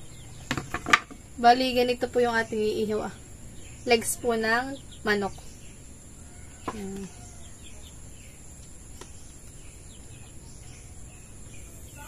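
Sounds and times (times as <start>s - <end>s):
faint bird chirps: 0.0s - 12.0s
high insect drone: 0.0s - 12.0s.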